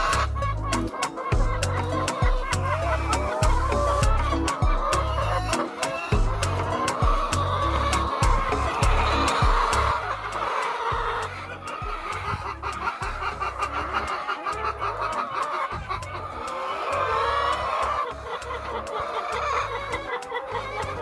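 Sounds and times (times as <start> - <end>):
background music with steady beat: 0.0 - 21.0
hens clucking: 0.0 - 21.0.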